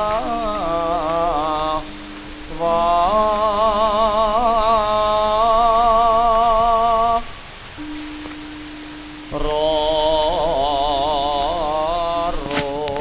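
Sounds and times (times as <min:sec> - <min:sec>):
person singing long note: 0:00.0 - 0:13.0
steady low tone: 0:00.0 - 0:13.0.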